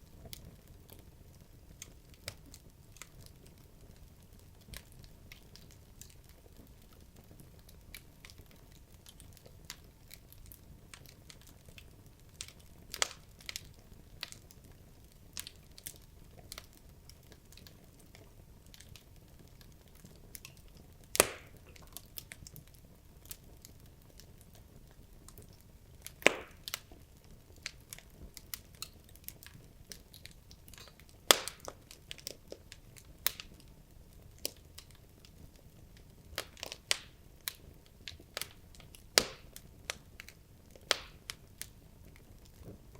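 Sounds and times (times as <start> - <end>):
logs crackling in fireplace: 0.0 - 42.9.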